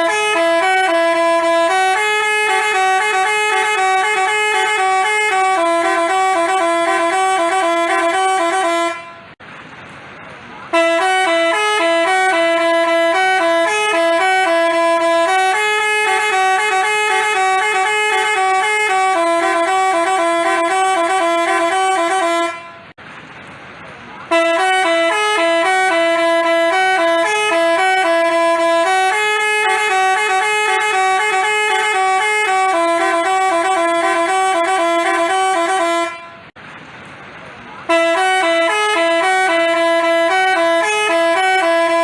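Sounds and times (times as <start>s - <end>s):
bus musical horn tune: 0.0s - 9.4s, 10.7s - 23.0s, 24.3s - 36.6s, 37.9s - 42.0s.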